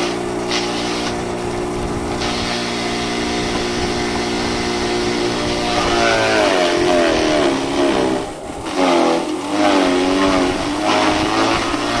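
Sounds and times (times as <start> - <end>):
electric chopper whining: 0.0 - 12.0.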